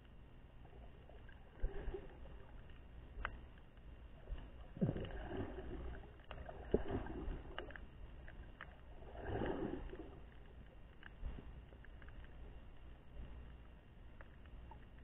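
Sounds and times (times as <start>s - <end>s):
underwater water swishing: 0.0s - 15.0s.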